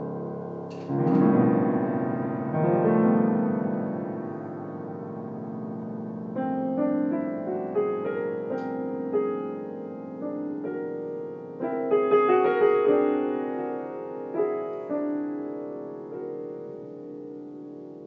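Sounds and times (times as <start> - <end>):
piano improvising: 0.0 - 18.0.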